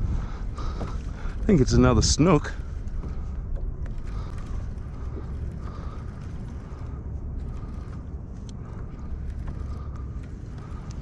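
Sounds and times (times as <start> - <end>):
steady low rumble: 0.0 - 11.0
fishing reel clicking and whirring: 1.4 - 11.0.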